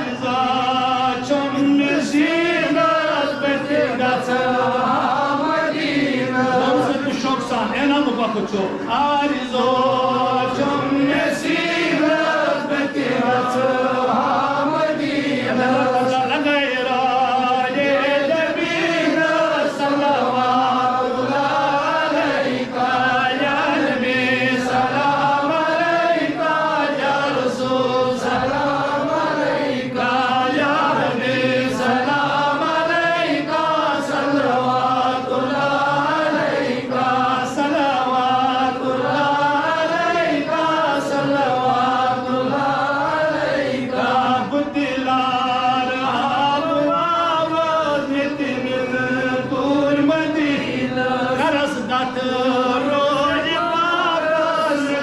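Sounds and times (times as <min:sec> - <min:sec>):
voices chanting together: 0:00.0 - 0:55.0.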